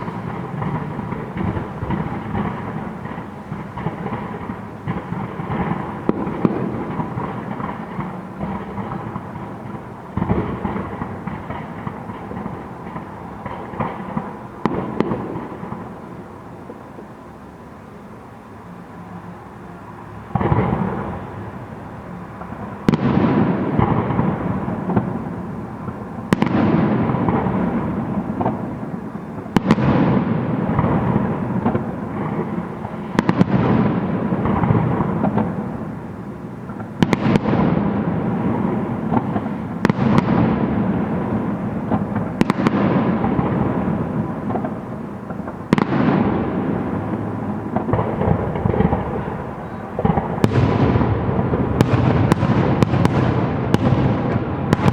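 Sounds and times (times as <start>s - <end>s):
long echo of bangs: 0.0s - 16.3s, 22.4s - 54.9s.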